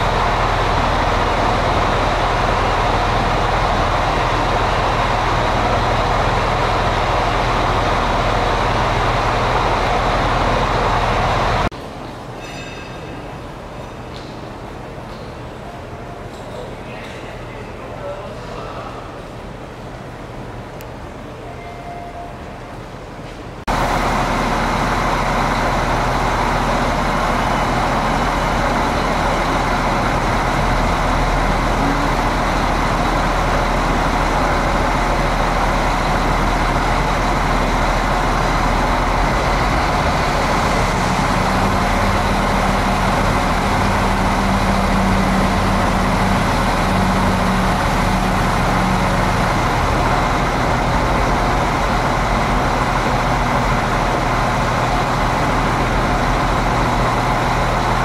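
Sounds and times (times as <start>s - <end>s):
diesel train engine idling: 0.0s - 58.0s.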